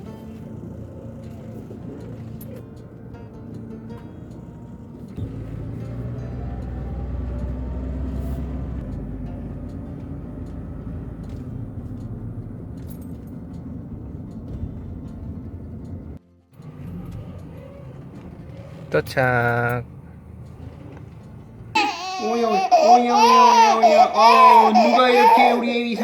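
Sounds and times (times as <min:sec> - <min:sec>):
car road and engine rumble: 0:00.0 - 0:25.6.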